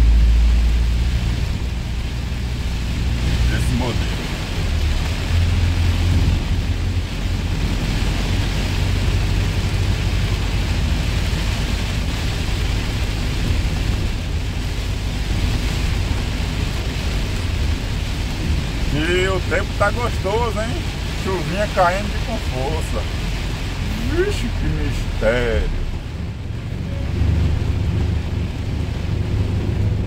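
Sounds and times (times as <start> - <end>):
engine and tyres rumbling: 0.0 - 30.0
heavy rain on windscreen: 0.0 - 30.0.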